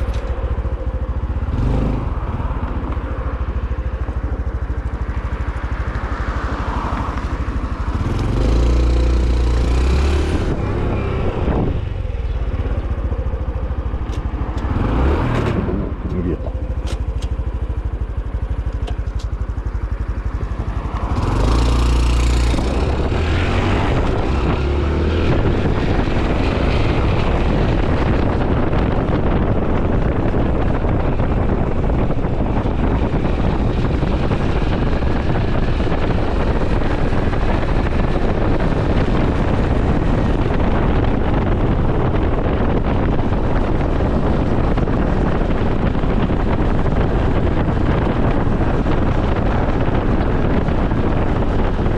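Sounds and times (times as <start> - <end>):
motorcycle engine: 0.0 - 51.9
wind rushing over microphone: 0.0 - 51.9.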